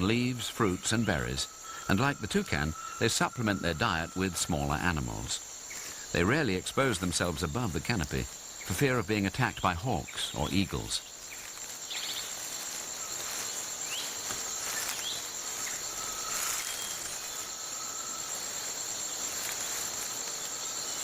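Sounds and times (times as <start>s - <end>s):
insects droning: 0.0s - 21.0s
short insect chirps: 0.0s - 21.0s.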